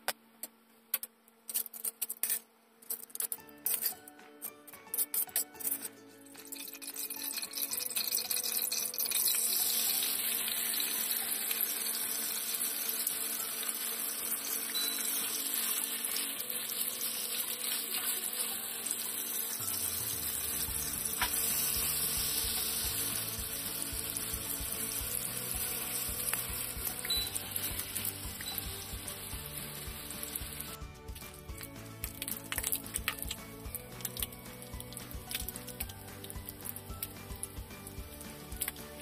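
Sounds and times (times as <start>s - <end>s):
bacon sizzling in oil: 6.4s - 30.9s, 31.6s - 39.0s.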